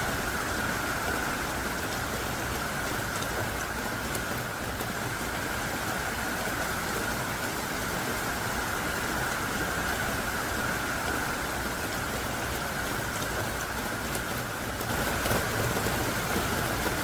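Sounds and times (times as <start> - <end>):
heavy pouring rain: 0.0 - 17.0.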